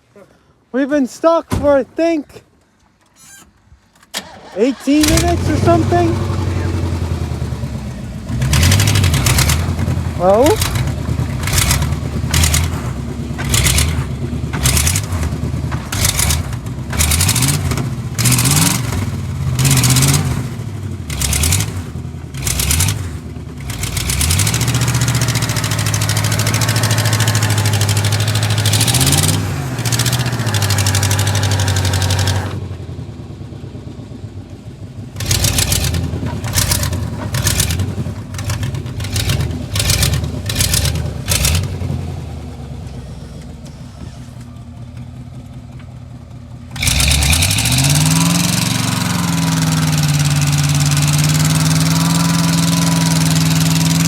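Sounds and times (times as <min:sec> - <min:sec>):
vehicle engine revving: 0:04.2 - 0:33.5, 0:35.0 - 0:44.7, 0:46.7 - 0:54.0.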